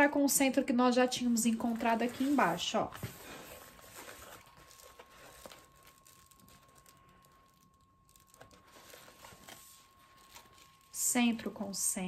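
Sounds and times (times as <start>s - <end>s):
synthetic fabric crinkling: 0.0s - 12.0s.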